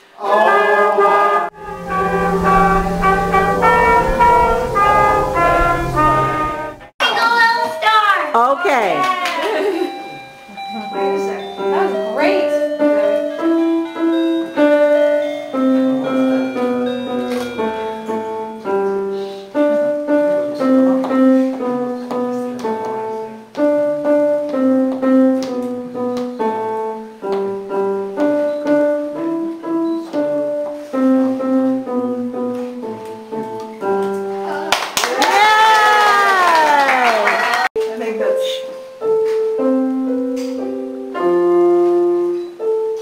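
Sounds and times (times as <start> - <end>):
piano melody: 1.4 - 7.0, 9.7 - 34.7, 37.7 - 43.0.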